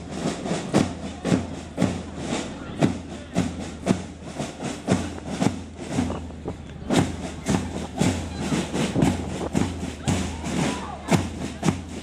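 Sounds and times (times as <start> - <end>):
boots marching on paving stones: 0.1 - 12.0.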